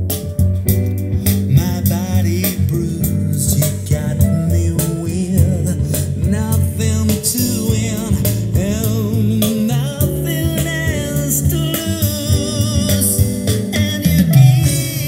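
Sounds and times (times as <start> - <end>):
song over loudspeakers: 0.1 - 15.0.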